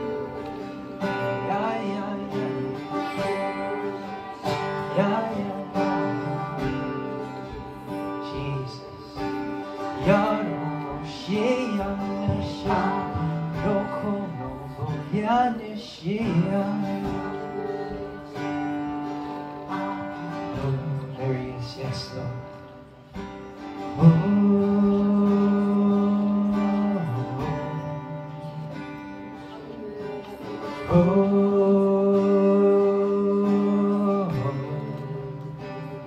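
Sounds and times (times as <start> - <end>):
person singing wordless phrases: 0.0 - 22.6, 24.0 - 36.0
guitar: 0.0 - 36.0.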